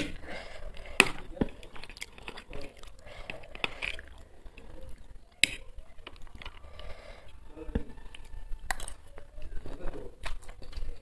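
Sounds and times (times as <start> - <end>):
mouth noises of eating: 0.0 - 11.0.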